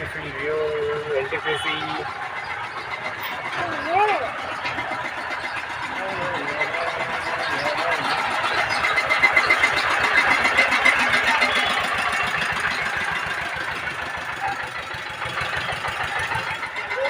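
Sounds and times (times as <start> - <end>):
engine running with rapid pulse: 0.0 - 17.0.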